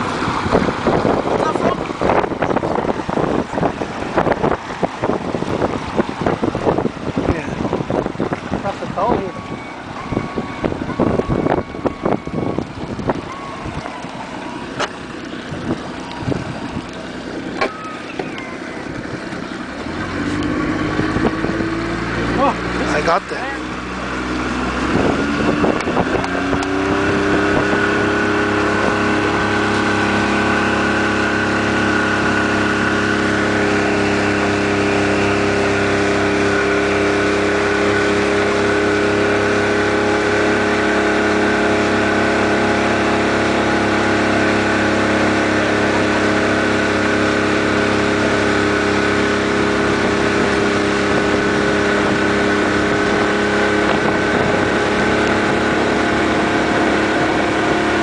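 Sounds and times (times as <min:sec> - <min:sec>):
boat wake rushing: 0:00.0 - 0:58.0
motorboat engine running: 0:00.0 - 0:58.0.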